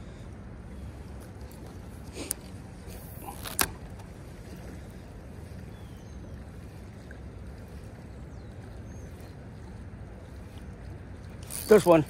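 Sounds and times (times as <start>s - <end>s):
creek flowing rumble: 0.0s - 12.0s.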